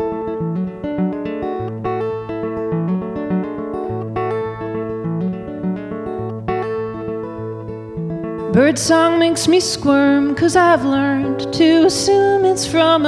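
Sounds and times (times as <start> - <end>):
solo guitar plucking: 0.0 - 13.0.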